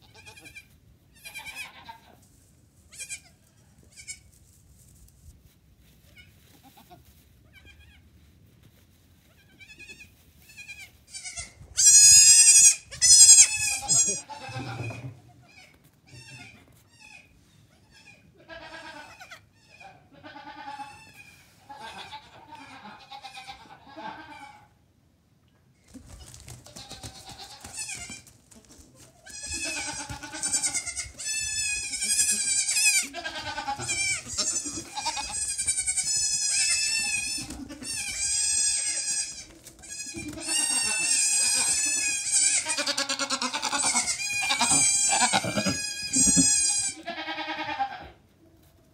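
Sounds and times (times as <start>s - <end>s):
goat kids bleating: 0.0s - 2.2s, 2.9s - 4.3s, 6.0s - 8.0s, 9.2s - 24.7s, 26.6s - 28.4s, 29.2s - 48.2s.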